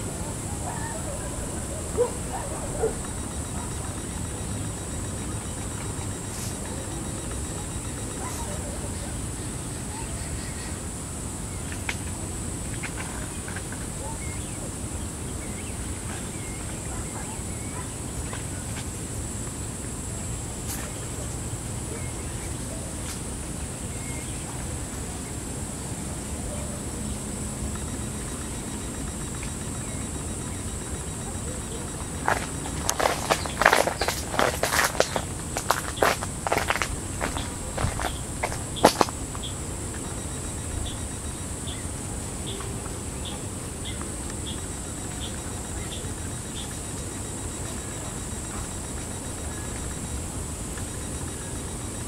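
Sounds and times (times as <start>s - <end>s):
high-pitched hiss: 0.0s - 52.0s
high-pitched insect drone: 0.0s - 52.0s.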